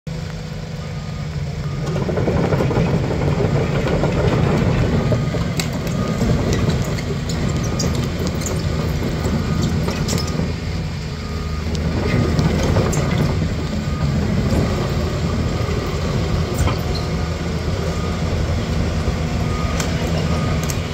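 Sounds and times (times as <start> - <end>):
excavator diesel engine idling: 0.1 - 20.9.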